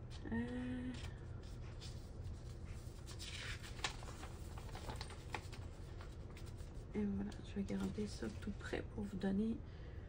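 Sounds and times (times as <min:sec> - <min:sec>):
paper rustling and crinkling: 0:00.1 - 0:08.7.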